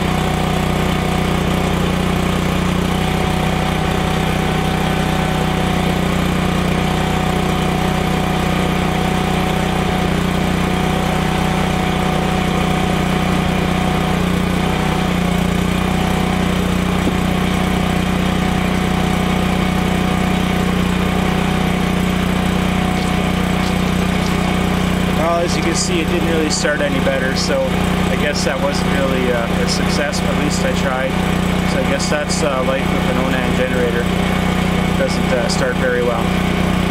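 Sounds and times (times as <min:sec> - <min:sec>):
generator engine running: 0:00.0 - 0:36.9.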